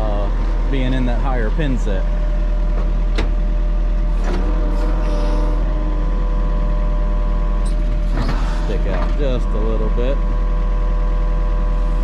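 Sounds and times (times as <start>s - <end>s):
diesel engine running: 0.0s - 12.0s
hydraulic whine: 0.0s - 12.0s.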